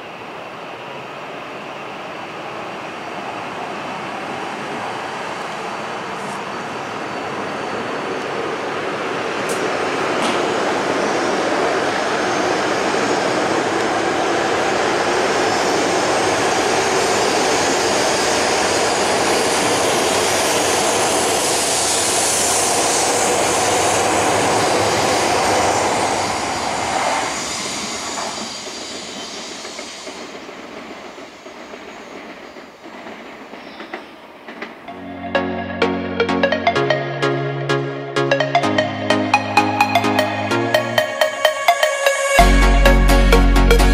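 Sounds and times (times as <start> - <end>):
bullet train running: 0.0 - 43.9.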